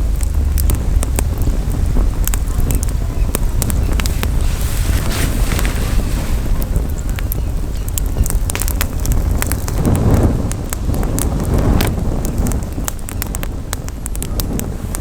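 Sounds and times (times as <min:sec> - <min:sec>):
campfire crackling and popping: 0:00.0 - 0:15.0
wind rumble on microphone: 0:00.0 - 0:15.0.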